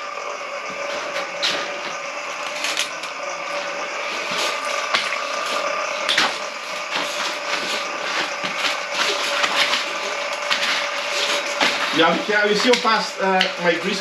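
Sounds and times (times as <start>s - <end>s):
drain cleaning machine humming: 0.0s - 14.0s.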